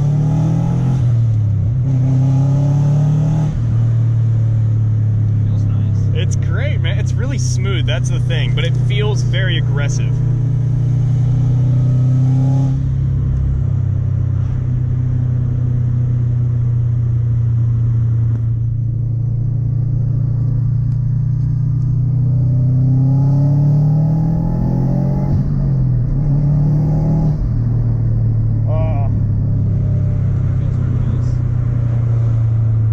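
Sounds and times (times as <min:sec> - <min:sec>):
car engine drone: 0:00.0 - 0:32.9.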